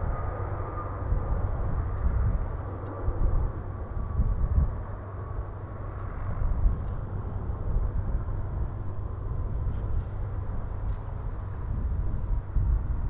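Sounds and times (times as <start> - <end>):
faint steady whine: 0.0 - 13.0
jet engines low rumble: 0.0 - 13.0.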